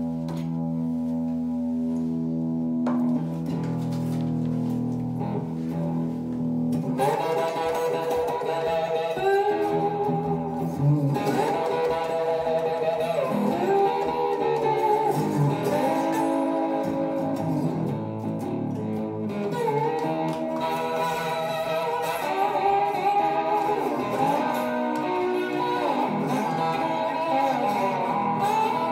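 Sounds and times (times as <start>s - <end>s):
slide electric guitar: 0.0s - 28.9s.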